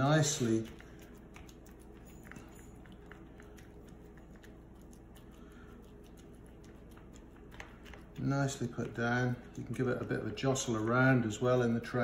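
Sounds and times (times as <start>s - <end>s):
low steady hum: 0.0s - 12.0s
spatula tapping and scraping: 0.0s - 12.0s.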